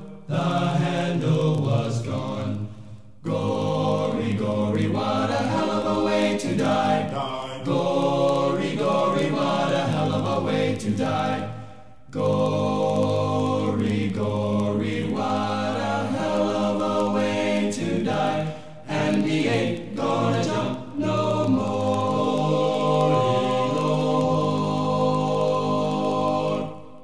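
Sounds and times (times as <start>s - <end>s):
choir singing held chords: 0.0s - 27.0s.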